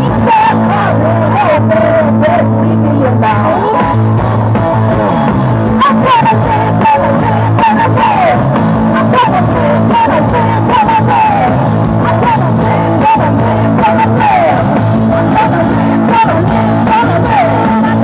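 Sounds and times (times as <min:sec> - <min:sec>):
woman singing: 0:00.0 - 0:04.6, 0:05.7 - 0:18.0
drums: 0:00.0 - 0:18.0
electric guitar: 0:00.0 - 0:18.0.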